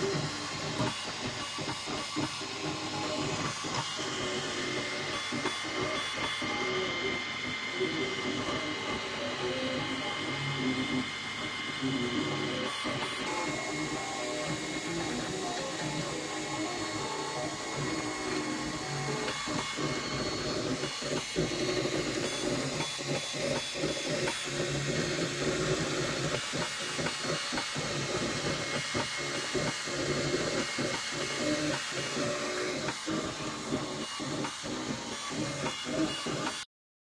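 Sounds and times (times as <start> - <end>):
printer fan hiss: 0.0 - 36.6
stepper motors whining: 0.0 - 36.6.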